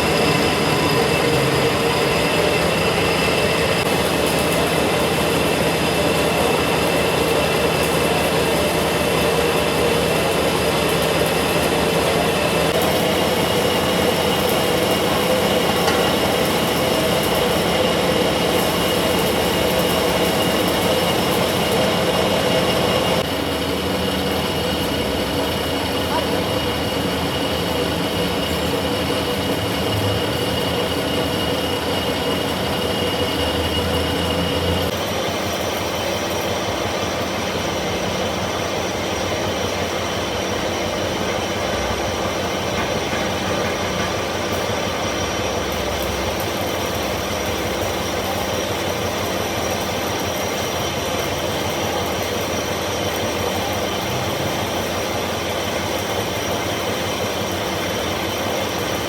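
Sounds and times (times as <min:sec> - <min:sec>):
workshop machinery whining: 0:00.0 - 0:59.0.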